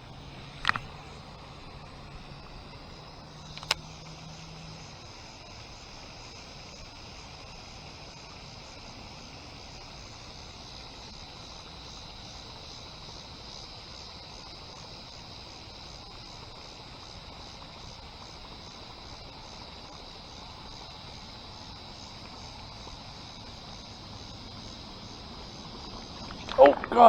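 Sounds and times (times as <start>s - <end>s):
pulsing high-pitched drone: 0.0s - 27.0s.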